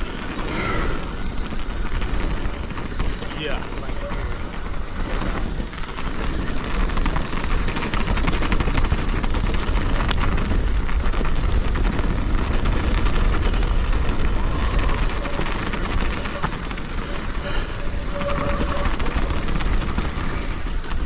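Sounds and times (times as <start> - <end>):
bike rattling over bumps: 0.0 - 21.0
bike tyres rolling on dirt: 0.0 - 21.0
wind buffeting microphone: 0.0 - 21.0.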